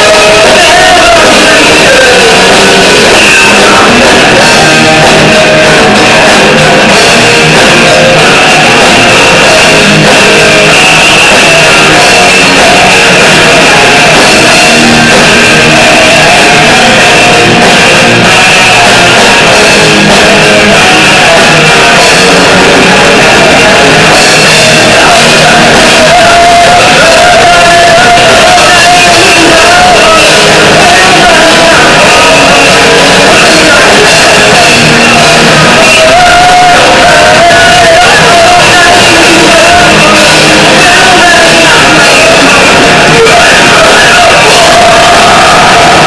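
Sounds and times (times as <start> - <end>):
bass guitar: 0.0 - 46.0
distorted electric guitars: 0.0 - 46.0
drum kit: 0.0 - 46.0.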